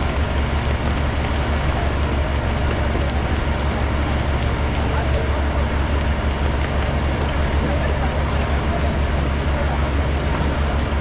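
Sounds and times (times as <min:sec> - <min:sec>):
boat engine running: 0:00.0 - 0:11.0
faint voices: 0:01.6 - 0:11.0.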